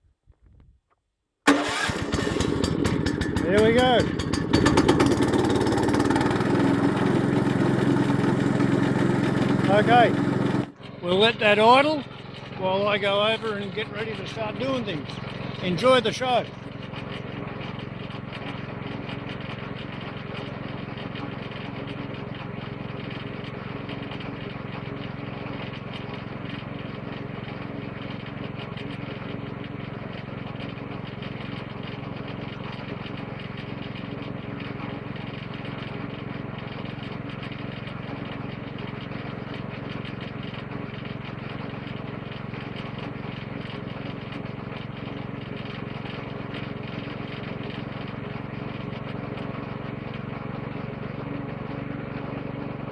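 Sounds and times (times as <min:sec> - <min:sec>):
small engine idling: 0:01.5 - 0:52.9.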